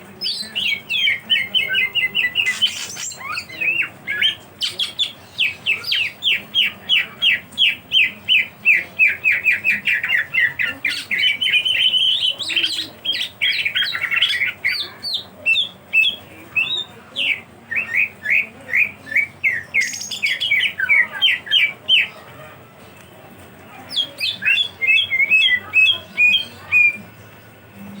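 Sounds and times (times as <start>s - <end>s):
bird chattering: 0.2s - 22.4s, 23.9s - 27.1s
bird whistling: 0.3s - 6.7s, 7.6s - 22.1s, 23.9s - 27.0s.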